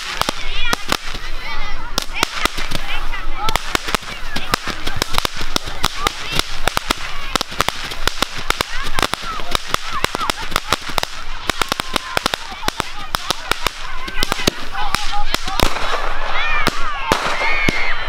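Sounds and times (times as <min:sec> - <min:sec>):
fireworks cracking and popping: 0:00.0 - 0:18.0.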